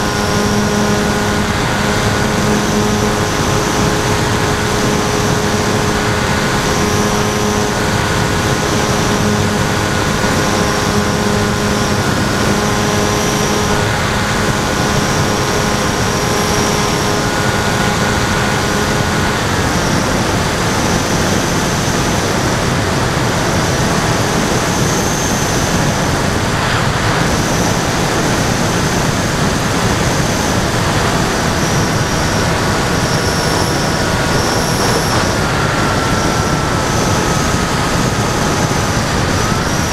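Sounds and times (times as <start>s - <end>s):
electric motor whine: 0.0s - 39.9s
rush of air: 0.0s - 39.9s.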